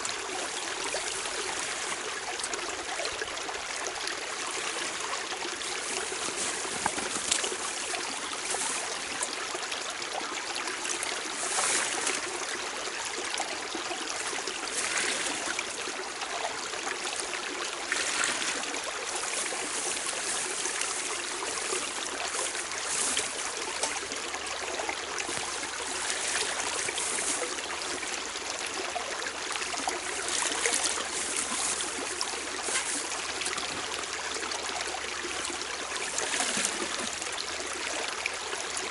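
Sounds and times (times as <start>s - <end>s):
forest stream rushing: 0.0s - 38.9s.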